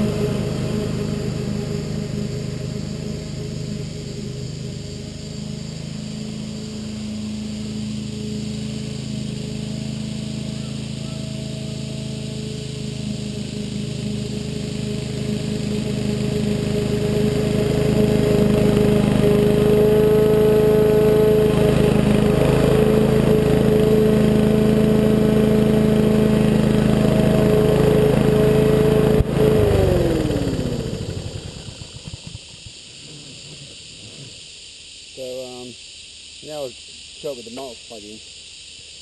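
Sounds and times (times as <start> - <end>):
lawn mower engine running: 0.0 - 34.2.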